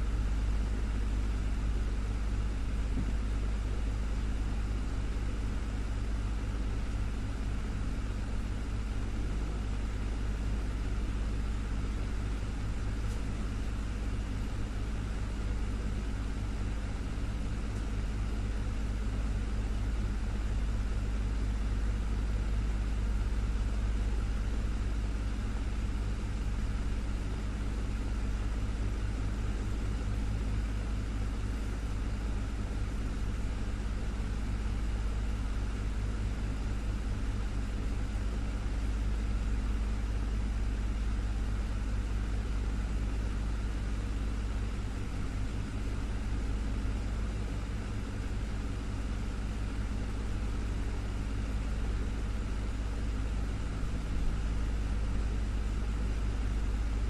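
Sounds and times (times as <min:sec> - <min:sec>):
desktop fan running: 0:00.0 - 0:57.0.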